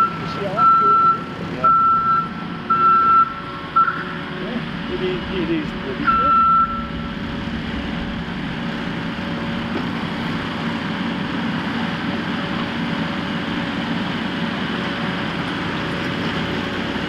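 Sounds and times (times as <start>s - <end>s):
skid steer loader engine: 0.0s - 17.0s.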